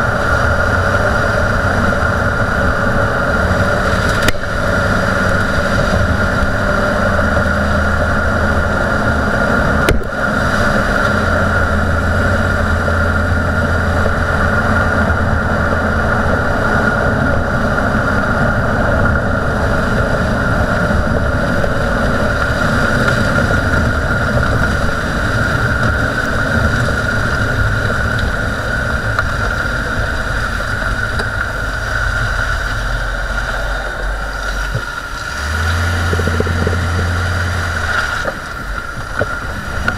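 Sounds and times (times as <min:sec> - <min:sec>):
road and tyre noise: 0:00.0 - 0:39.9
wheel bearing growl: 0:00.0 - 0:39.9.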